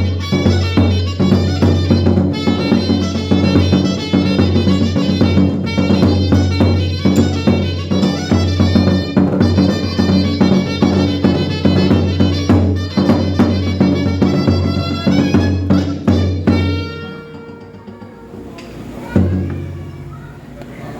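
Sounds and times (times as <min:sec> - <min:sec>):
steady drum beat: 0:00.0 - 0:20.1
band playing lively tune: 0:00.0 - 0:20.6.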